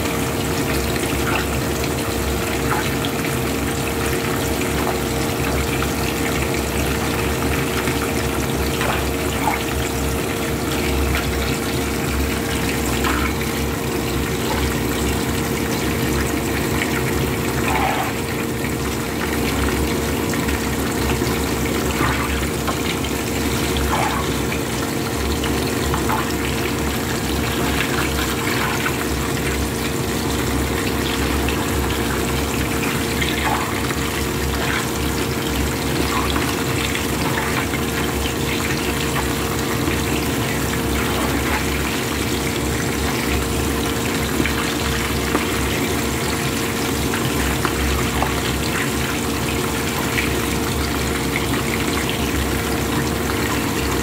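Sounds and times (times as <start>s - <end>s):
fish frying in hot oil: 0.0s - 54.0s.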